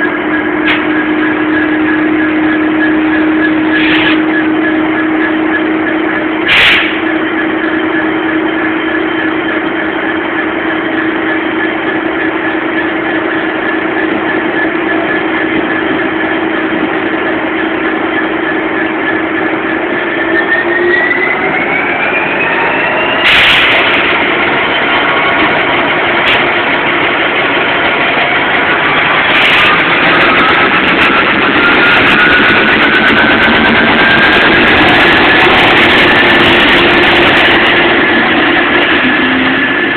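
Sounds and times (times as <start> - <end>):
diesel locomotive engine: 0.0 - 39.9.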